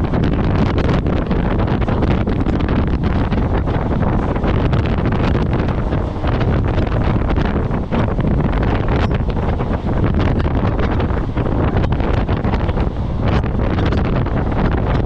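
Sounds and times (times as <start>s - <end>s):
train rumbling and clattering: 0.0s - 15.0s
wind buffeting microphone: 0.0s - 15.0s.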